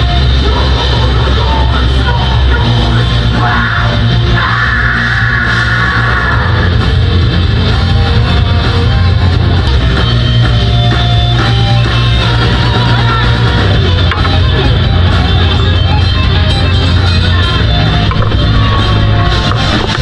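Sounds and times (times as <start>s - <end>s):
distorted electric guitars: 0.0s - 20.0s
heavy bass: 0.0s - 20.0s
pounding drum kit: 0.0s - 20.0s.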